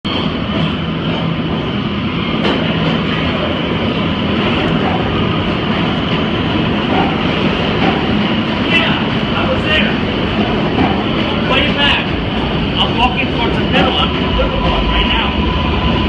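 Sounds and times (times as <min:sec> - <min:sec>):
subway train rail rumble: 0:00.0 - 0:16.0.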